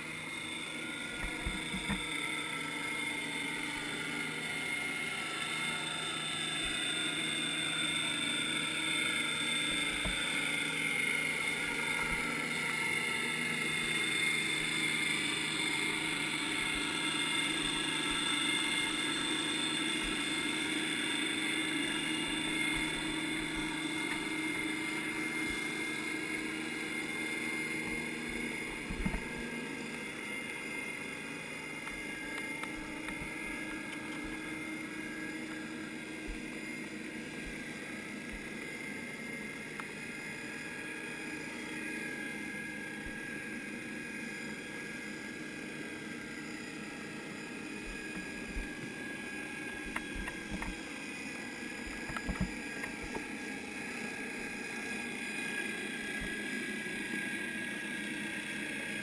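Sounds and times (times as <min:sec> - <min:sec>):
high whining tones: 0:00.0 - 0:58.6
underwater mechanical hum: 0:00.0 - 0:59.0.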